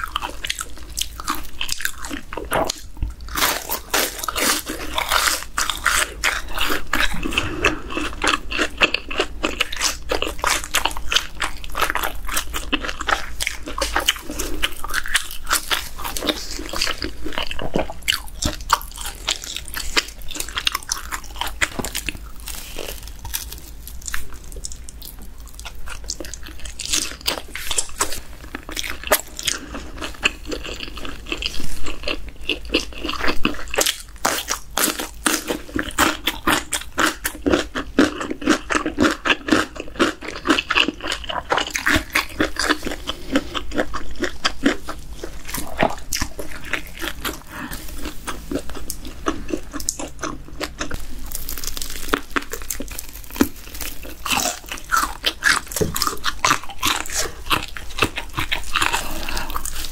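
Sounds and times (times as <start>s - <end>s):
crunching fried chicken: 0.0s - 59.9s
person biting and chewing: 0.0s - 59.9s.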